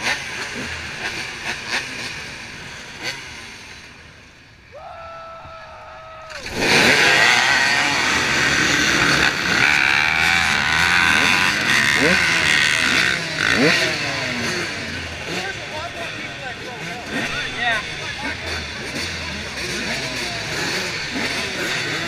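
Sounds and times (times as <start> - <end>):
many engines revving hard: 0.0 - 4.3, 6.3 - 22.0
dirt bike engines: 0.0 - 22.0.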